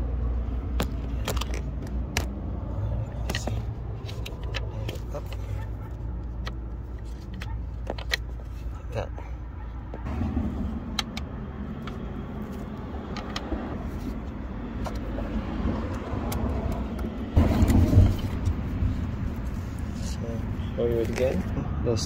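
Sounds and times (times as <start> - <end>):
steady low rumble: 0.0 - 20.8.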